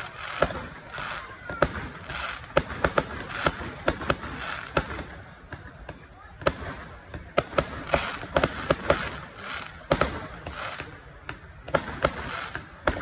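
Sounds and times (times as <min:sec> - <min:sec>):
fireworks bangs and pops: 0:00.0 - 0:13.0
fireworks crackling: 0:00.0 - 0:13.0.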